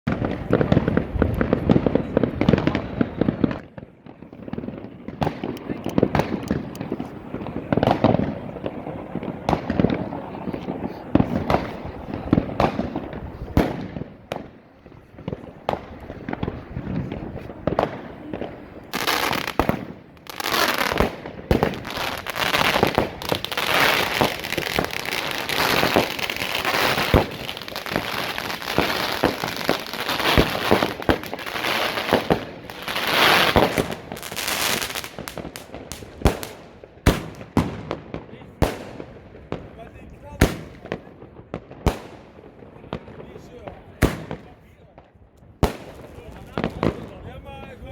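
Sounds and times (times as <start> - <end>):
firework crackling: 0.1 - 47.9
firework shots and bursts: 0.1 - 47.9.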